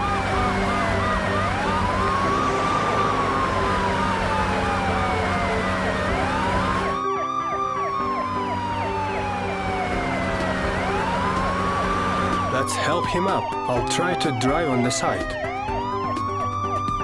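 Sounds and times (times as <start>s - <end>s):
siren wailing: 0.0s - 17.0s
siren yelping: 0.0s - 17.0s.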